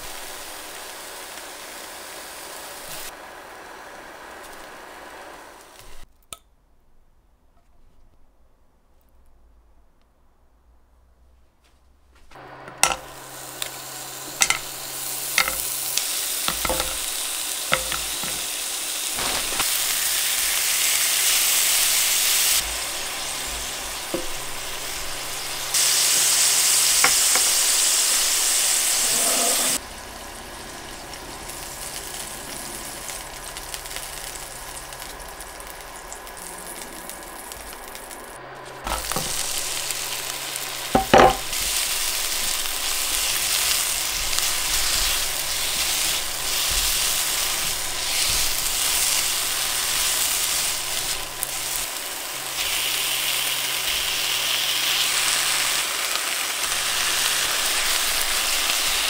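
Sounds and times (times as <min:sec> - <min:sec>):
meat sizzling in a frying pan: 0:00.0 - 0:06.1, 0:12.8 - 0:59.0
onions sizzling: 0:00.0 - 0:06.1, 0:12.3 - 0:59.0.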